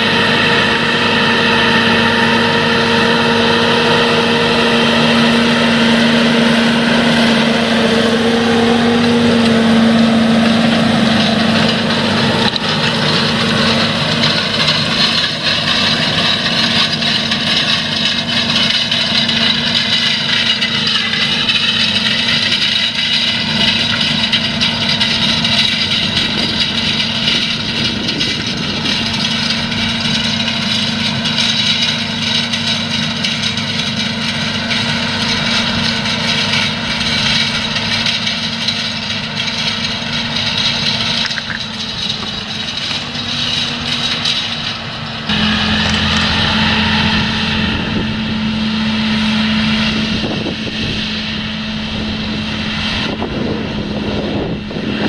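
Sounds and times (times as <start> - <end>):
cultivator discs rattling in soil: 0.0 - 55.0
tractor diesel engine: 0.0 - 55.0.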